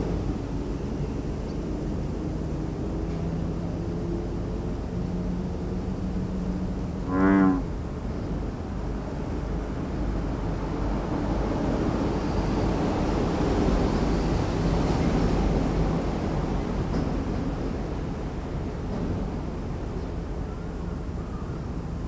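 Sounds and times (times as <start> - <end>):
faint engine hum: 0.0 - 22.0.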